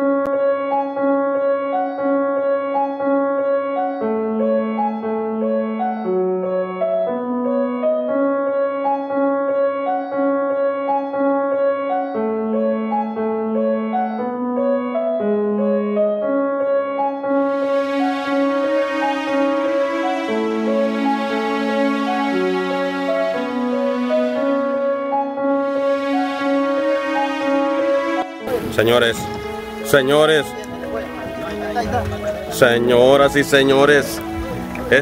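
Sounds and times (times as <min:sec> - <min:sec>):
soft keyboard tune: 0:00.0 - 0:35.0.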